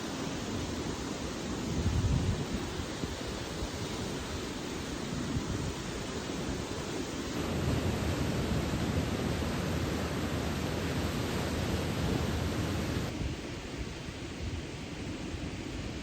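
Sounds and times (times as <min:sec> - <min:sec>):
sea surf: 0:00.0 - 0:14.4
wind: 0:00.0 - 0:16.0.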